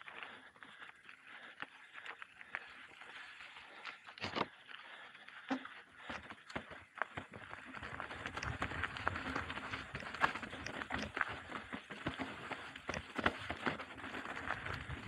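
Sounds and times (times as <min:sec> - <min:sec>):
bike tyres crunching on gravel: 0:00.0 - 0:15.0.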